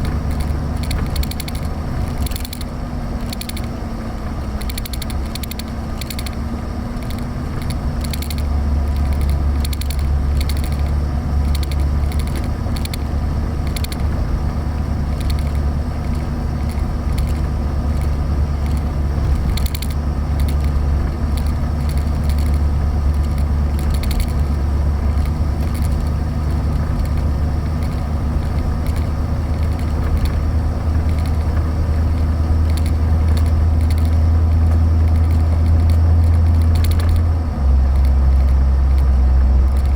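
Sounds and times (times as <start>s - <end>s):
light clicking and rattling: 0.0s - 39.9s
low engine drone: 0.0s - 39.9s.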